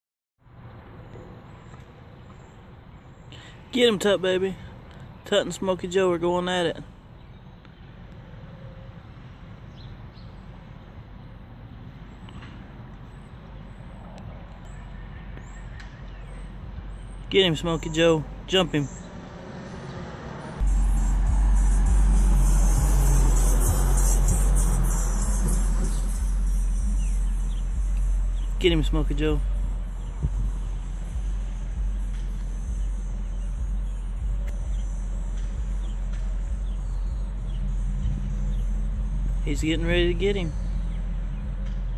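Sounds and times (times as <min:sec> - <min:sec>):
low outdoor rumble: 0:00.5 - 0:41.9.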